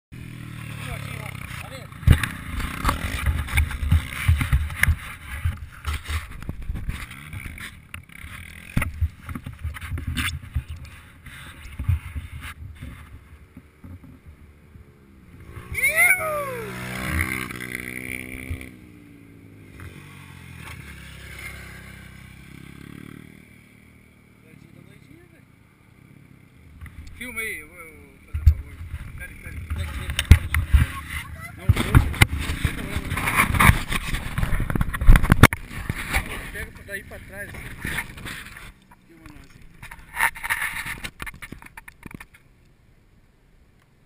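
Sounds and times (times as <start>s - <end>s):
dirt bike engine revving: 0.1s - 12.3s, 14.4s - 40.2s.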